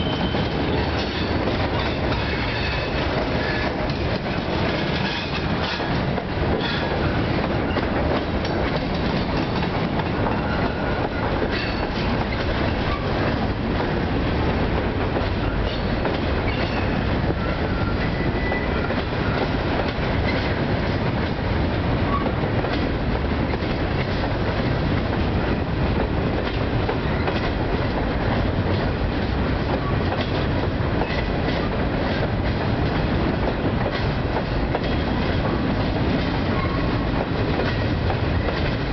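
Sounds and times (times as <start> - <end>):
clickety-clack over rail joints: 0.0 - 38.9
train wheels rumbling on rail: 0.0 - 38.9.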